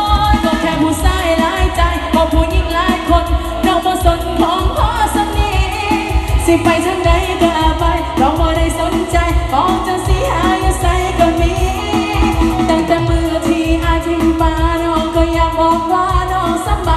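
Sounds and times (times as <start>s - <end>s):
backing music with drum beat: 0.0s - 16.9s
woman singing into a microphone: 0.0s - 16.9s.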